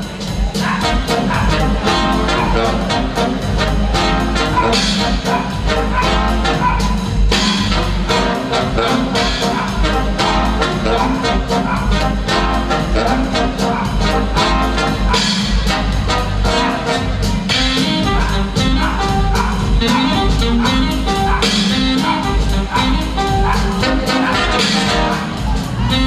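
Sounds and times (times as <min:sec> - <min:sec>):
brass band music: 0:00.0 - 0:26.0.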